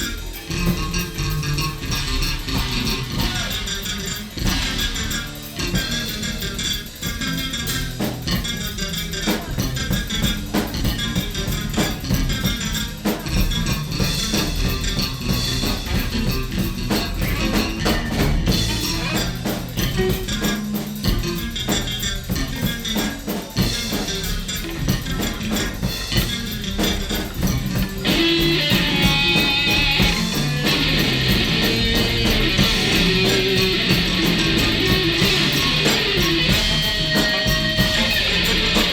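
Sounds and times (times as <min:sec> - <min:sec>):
free jazz band playing: 0:00.0 - 0:38.9.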